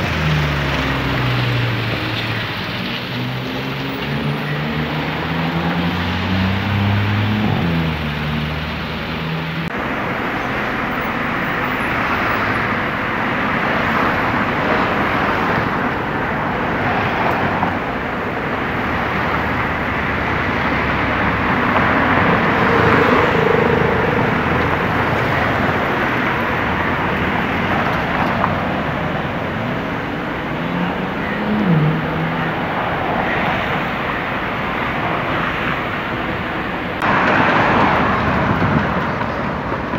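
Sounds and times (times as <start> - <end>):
car passing: 0.0 - 39.9
road traffic passing: 0.0 - 39.9.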